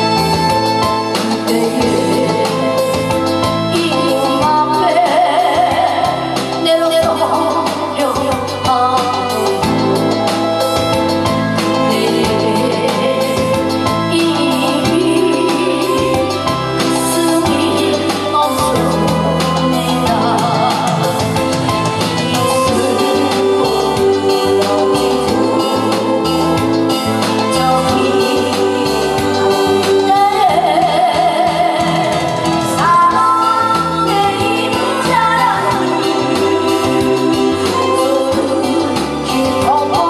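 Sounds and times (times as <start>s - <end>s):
backing music with bass line: 0.0s - 40.0s
woman singing into microphone: 0.0s - 40.0s.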